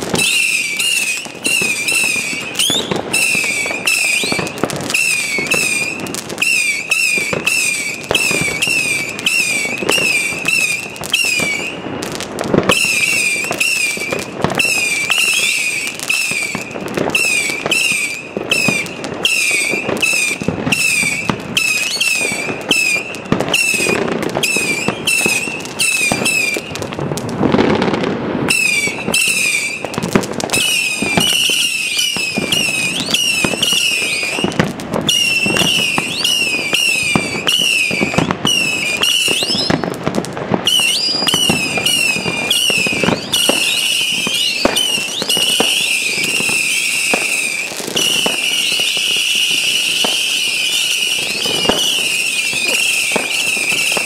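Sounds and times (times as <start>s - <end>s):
firework launch pops and cracks: 0.0s - 54.0s
screaming firework whistles: 0.0s - 54.0s.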